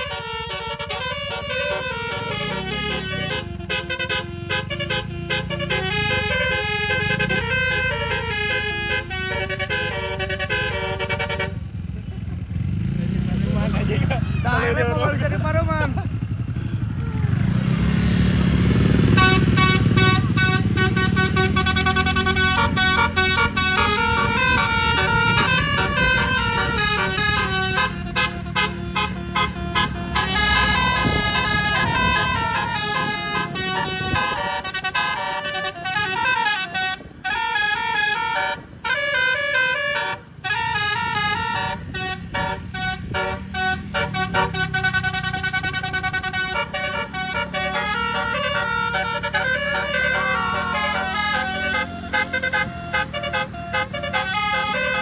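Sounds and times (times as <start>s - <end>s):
musical air horn melody: 0.0s - 11.6s, 18.9s - 55.0s
bus engine running: 0.0s - 55.0s.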